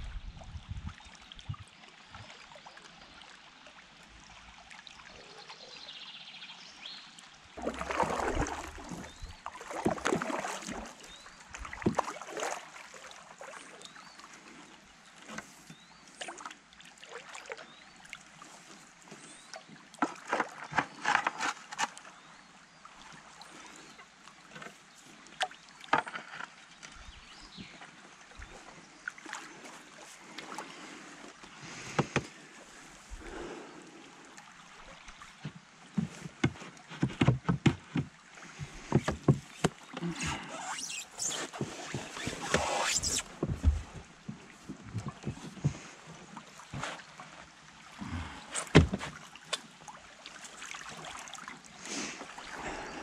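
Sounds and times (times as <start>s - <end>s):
paddle splashes and drips: 0.4s - 53.0s.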